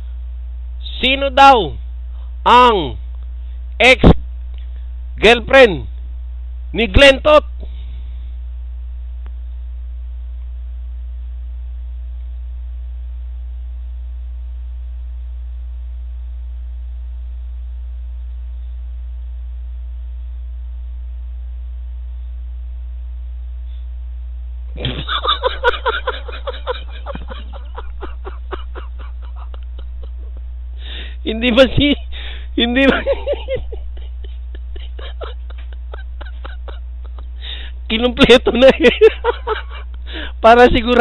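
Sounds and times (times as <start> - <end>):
low electrical mains hum: 0.0 - 41.0.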